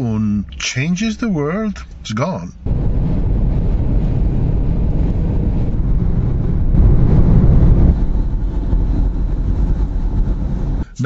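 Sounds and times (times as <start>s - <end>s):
car road and wind noise: 0.0s - 11.0s.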